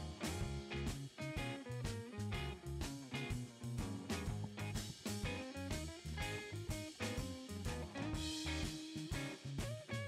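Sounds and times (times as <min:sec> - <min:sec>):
upbeat music with plucked guitar: 0:00.0 - 0:10.0.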